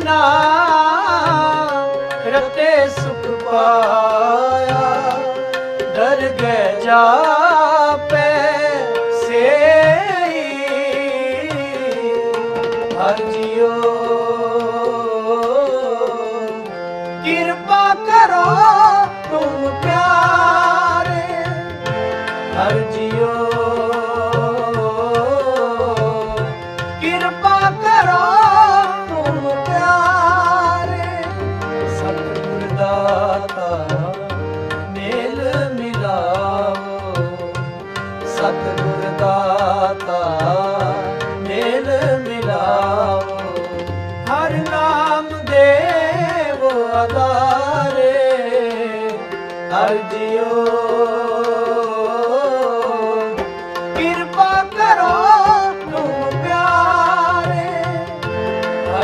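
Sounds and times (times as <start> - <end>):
harmonium chords: 0.0 - 59.0
person singing: 0.0 - 59.0
tabla beat: 0.0 - 59.0.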